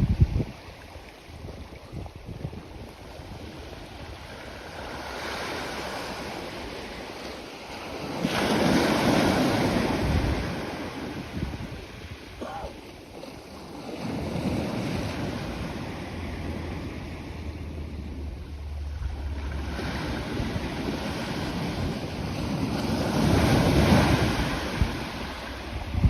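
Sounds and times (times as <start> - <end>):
wind buffeting microphone: 0.0 - 5.2, 8.6 - 12.4, 14.0 - 26.0
sea waves breaking: 0.0 - 26.0.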